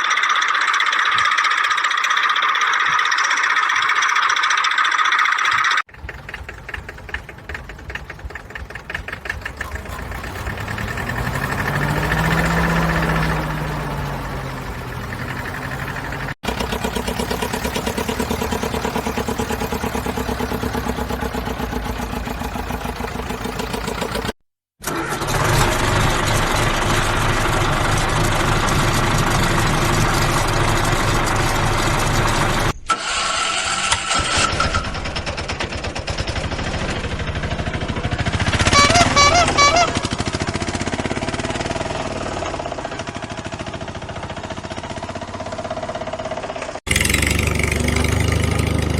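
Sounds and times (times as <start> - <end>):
car engine starting and revving: 5.8 - 48.9.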